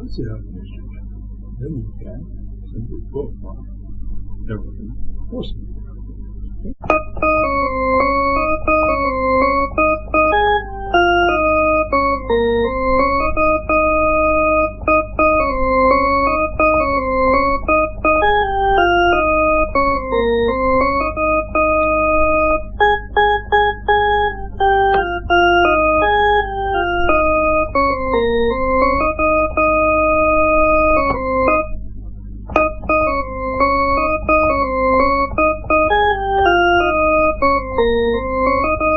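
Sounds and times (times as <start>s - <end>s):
electronic organ music: 0.0s - 38.9s
instrumental melody of held notes: 6.8s - 38.9s.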